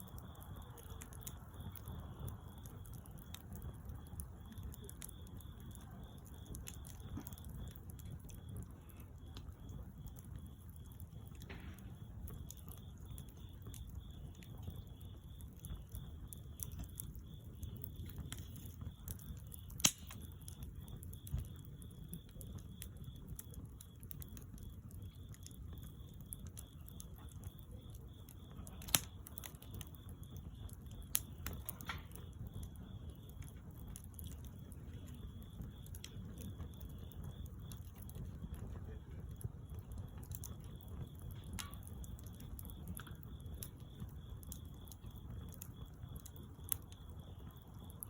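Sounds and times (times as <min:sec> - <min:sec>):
bonfire crackling and popping: 0:00.0 - 0:48.0.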